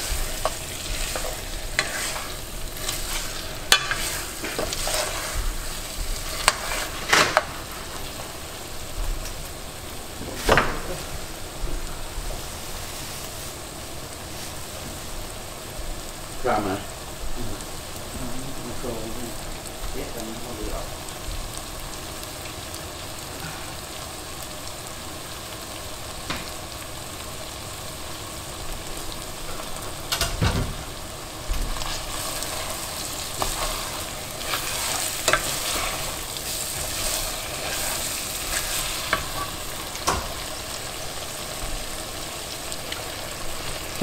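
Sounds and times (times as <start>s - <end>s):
aromatics sizzling in a pot: 0.0s - 44.0s.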